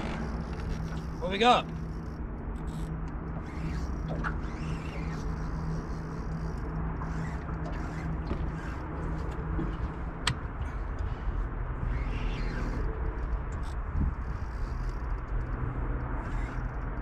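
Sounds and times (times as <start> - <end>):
fishing reel creaking and ticking: 0.0 - 17.0
low hum and rumble: 0.0 - 17.0.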